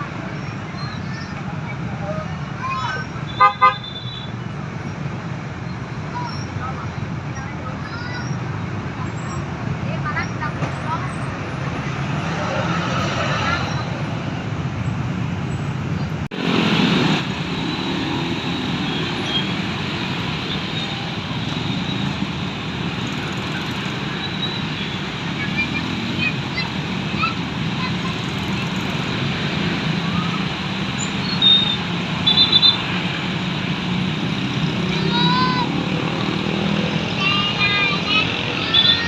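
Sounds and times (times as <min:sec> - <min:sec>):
roadside traffic noise: 0:00.0 - 0:39.0.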